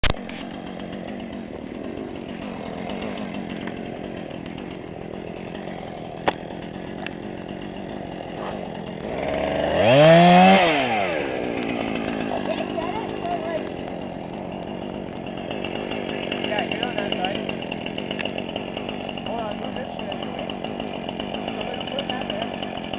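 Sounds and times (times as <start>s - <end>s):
chainsaw engine running: 0.0s - 22.9s.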